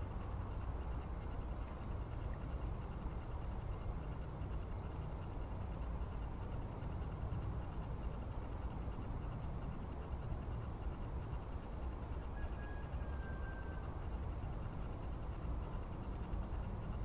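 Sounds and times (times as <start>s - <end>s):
low outdoor rumble by river: 0.0s - 17.0s
thin steady whistle-like tone: 0.0s - 17.0s.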